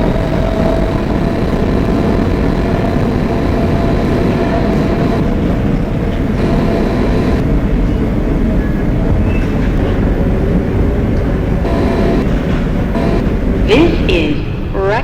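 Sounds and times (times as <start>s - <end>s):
faint traction motor whine: 0.0s - 14.6s
wheels rumbling on rail: 0.0s - 15.0s.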